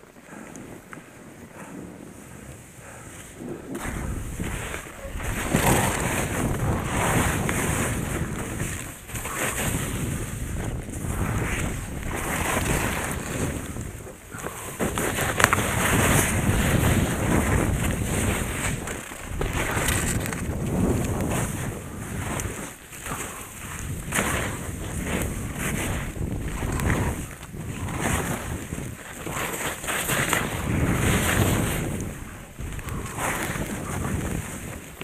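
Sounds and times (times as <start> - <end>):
skis scraping over snow: 0.0 - 35.0
wind buffeting microphone: 0.0 - 35.0.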